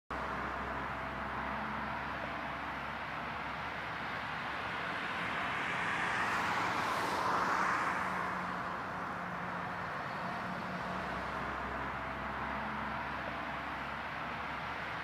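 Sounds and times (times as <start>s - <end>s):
jet engines at takeoff power: 0.1s - 15.0s.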